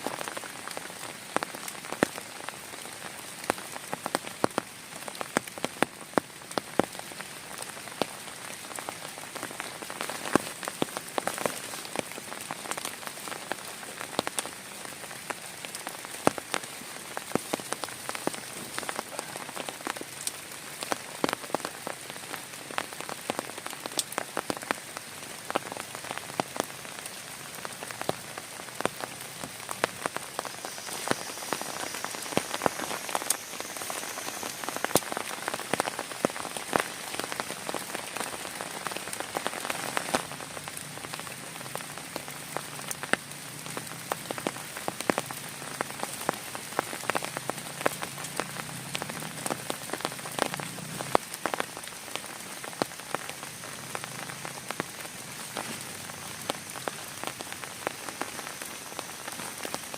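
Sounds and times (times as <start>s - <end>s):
heavy rain: 0.0s - 59.9s
raindrops tapping on surface: 0.0s - 59.9s.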